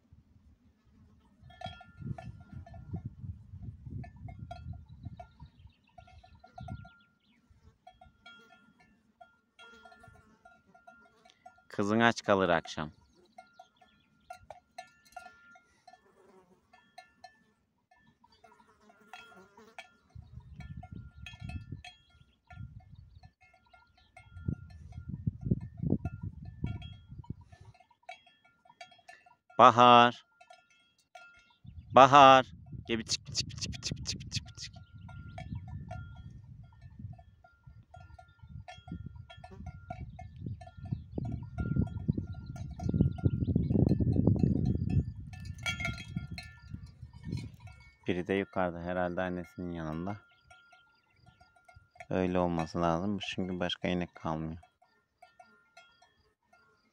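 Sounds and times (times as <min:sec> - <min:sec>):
cow bells clinking: 0:01.3 - 0:56.9.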